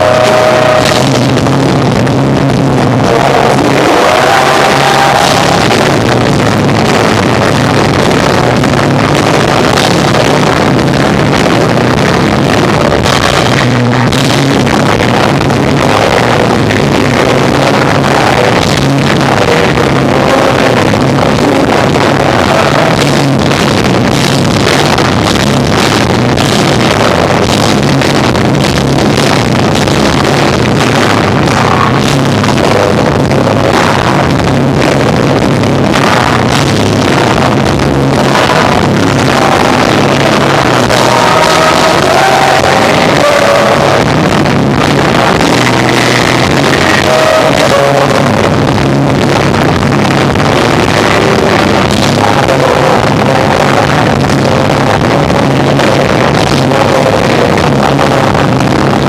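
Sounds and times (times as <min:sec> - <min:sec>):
distorted live rock band: 0:00.0 - 0:59.0.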